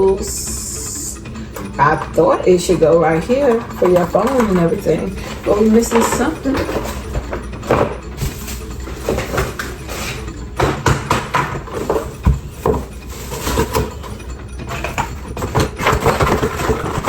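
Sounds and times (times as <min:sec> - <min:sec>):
equipment parts clattering: 0:00.0 - 0:17.0.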